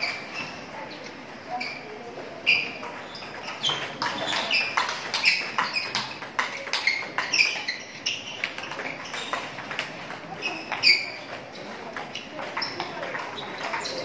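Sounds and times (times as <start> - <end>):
table tennis ball clicks: 2.6 - 14.0.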